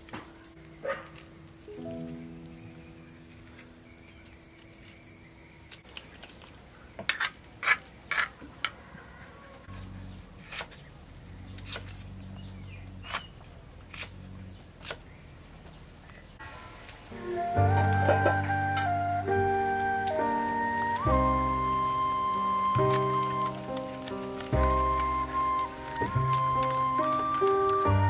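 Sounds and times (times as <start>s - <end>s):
insects chirping in a trill: 0.0s - 28.0s.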